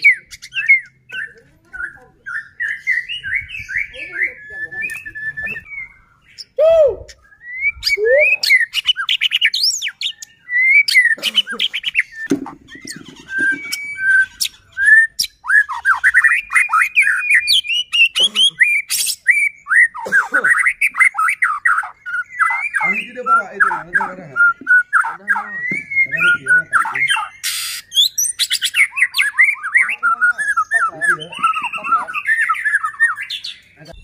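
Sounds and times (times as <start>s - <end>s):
songbird whistling song: 0.0s - 34.0s.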